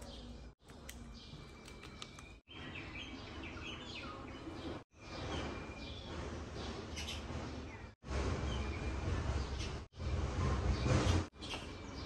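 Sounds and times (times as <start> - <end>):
small birds chirping: 0.0 - 9.9, 10.7 - 12.0.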